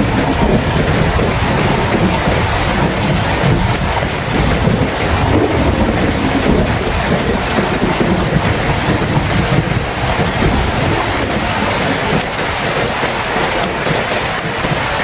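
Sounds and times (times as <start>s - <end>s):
low rumble of thunder: 0.0s - 13.6s
heavy rain falling: 0.0s - 15.0s.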